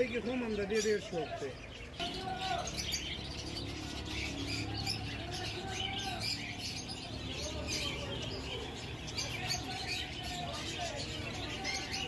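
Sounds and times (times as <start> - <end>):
parakeet chicks chirping: 0.0 - 12.0.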